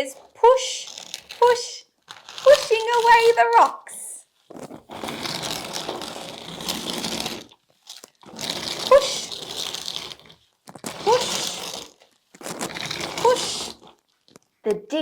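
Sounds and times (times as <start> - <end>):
small rocks scraping and crunching: 0.0 - 14.6.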